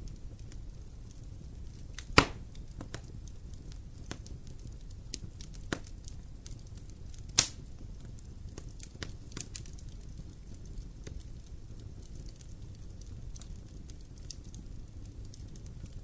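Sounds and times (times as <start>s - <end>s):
fire crackling: 0.0s - 16.0s
fire popping loudly: 0.0s - 16.0s
low fire rumble: 0.0s - 16.0s.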